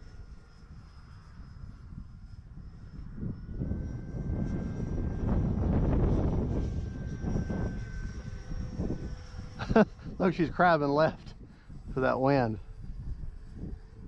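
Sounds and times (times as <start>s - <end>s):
electric ducted-fan jet whine: 0.0s - 14.0s
wind buffeting microphone: 0.6s - 14.0s.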